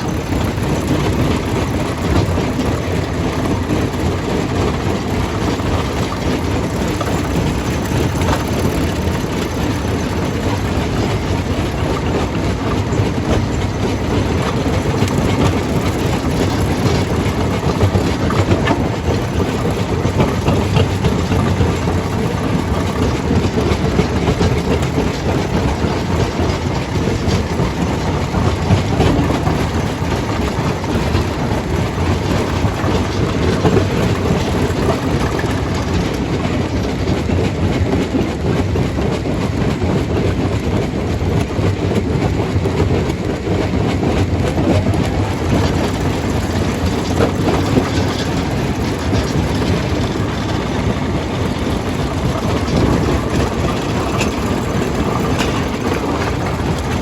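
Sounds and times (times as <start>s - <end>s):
rock crusher rumbling: 0.0s - 40.3s, 41.0s - 57.0s.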